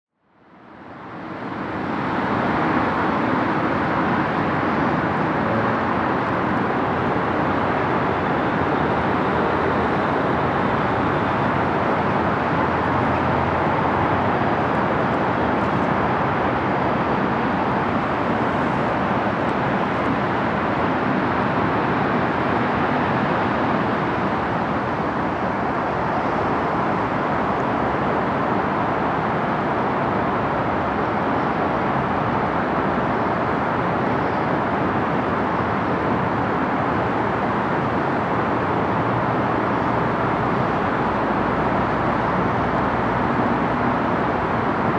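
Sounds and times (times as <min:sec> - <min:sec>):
traffic noise: 0:00.2 - 0:44.9.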